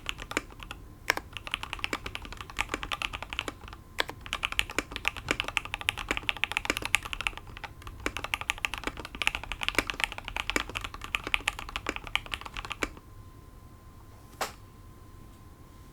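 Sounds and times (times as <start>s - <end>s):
mechanical keyboard typing: 0.0s - 13.0s.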